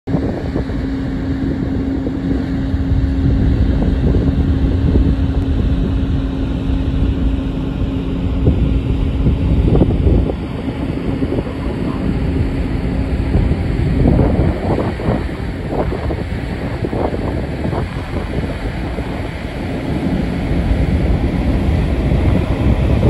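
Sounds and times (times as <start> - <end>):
ship engine drone: 0.1 - 23.0
steady hum: 0.1 - 23.0
wind buffeting microphone: 0.1 - 23.0.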